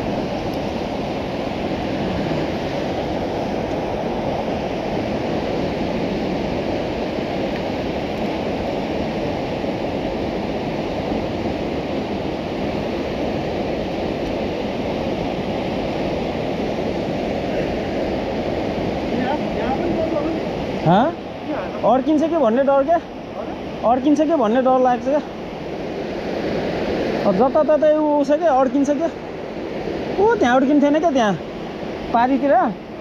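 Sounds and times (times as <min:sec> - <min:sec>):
river rapids roaring: 0:00.0 - 0:33.0.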